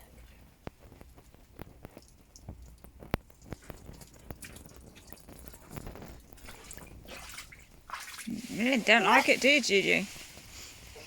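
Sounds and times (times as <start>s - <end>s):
water dripping and spattering: 0.5s - 10.4s.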